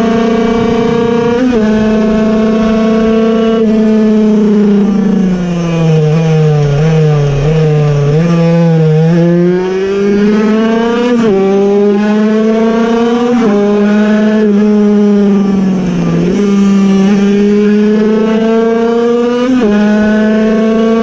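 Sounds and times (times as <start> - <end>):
two-stroke racing engine revving: 0.0 - 21.0.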